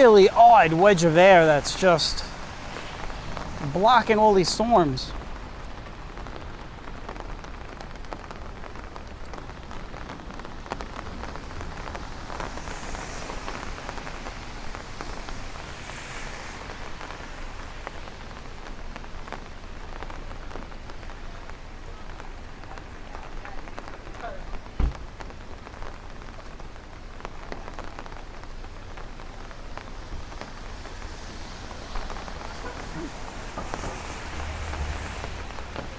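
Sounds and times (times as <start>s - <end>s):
rain falling on street: 0.0s - 35.9s.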